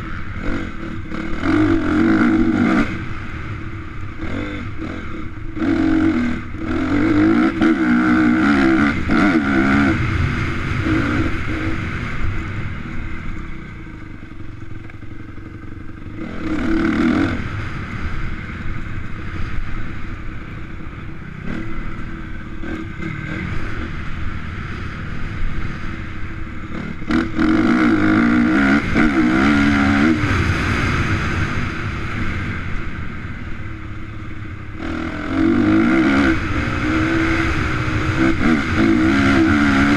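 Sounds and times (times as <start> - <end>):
motocross bike revving: 0.0 - 39.9.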